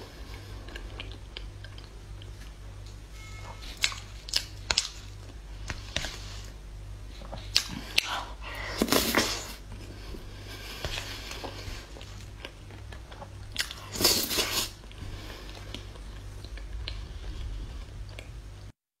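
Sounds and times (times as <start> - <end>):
chewing cake: 0.0 - 3.0, 3.6 - 18.5
low steady hum: 0.0 - 18.8.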